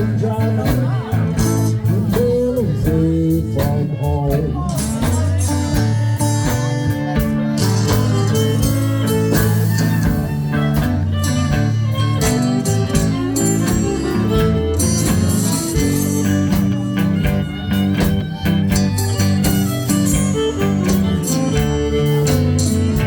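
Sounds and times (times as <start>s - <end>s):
blues band playing: 0.0s - 23.0s
harmonica: 0.0s - 23.0s.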